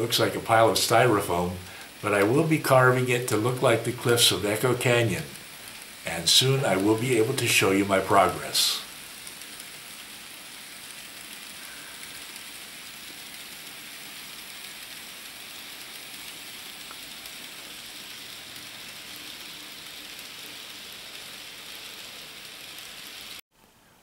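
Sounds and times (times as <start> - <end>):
model train motors whirring: 0.0 - 23.4.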